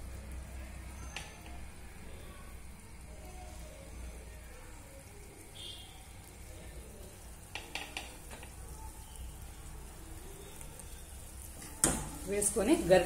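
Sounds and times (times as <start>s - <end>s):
dough deep-frying in hot oil: 0.0s - 13.0s.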